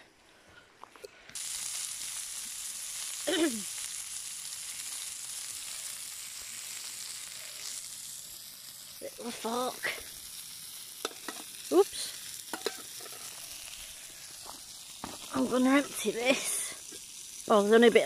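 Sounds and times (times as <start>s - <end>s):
burger sizzling in grill pan: 1.3s - 18.0s.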